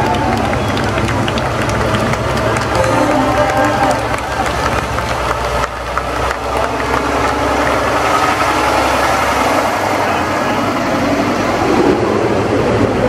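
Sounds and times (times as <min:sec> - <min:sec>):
truck diesel engine passing: 0:00.0 - 0:13.0.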